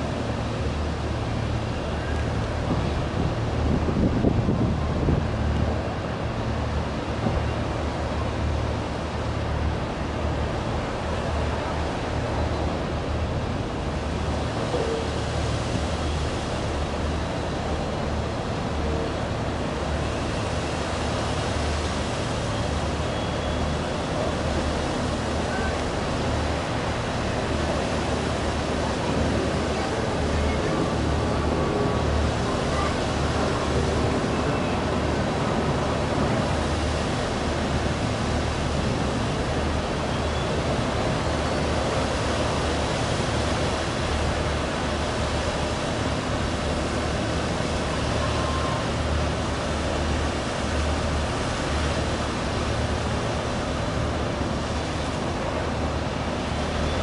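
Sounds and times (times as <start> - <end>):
churned water rushing: 0.0 - 57.0
ferry engines low rumble: 0.0 - 57.0.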